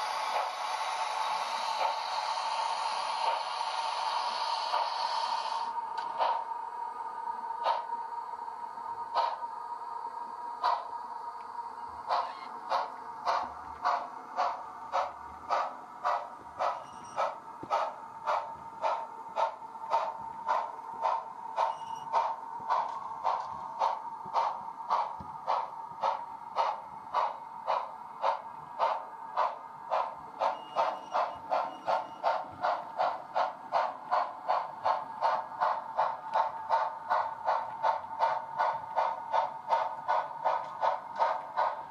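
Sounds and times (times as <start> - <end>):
steam locomotive chuffing: 0.0 - 41.9.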